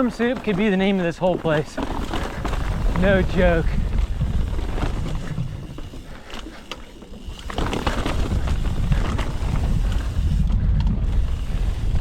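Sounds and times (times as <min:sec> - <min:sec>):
bike clattering over rocks: 0:00.0 - 0:11.9
wind rumbling on microphone: 0:01.8 - 0:12.0.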